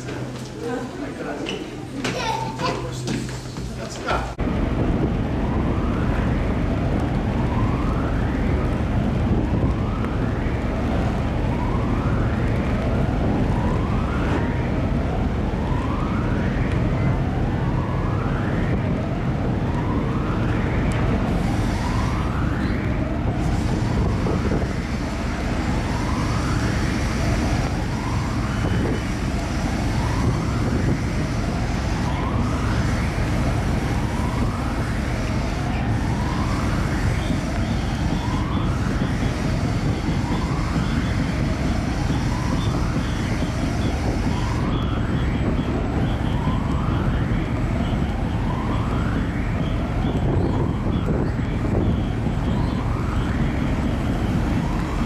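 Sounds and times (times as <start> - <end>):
ship engines rumbling: 0.0 - 55.0
wind: 0.0 - 55.0
rising siren-like wail: 4.4 - 55.0.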